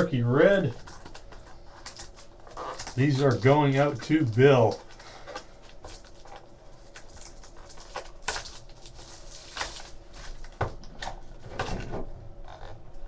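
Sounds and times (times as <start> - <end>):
wrapper crinkling: 0.0 - 10.6.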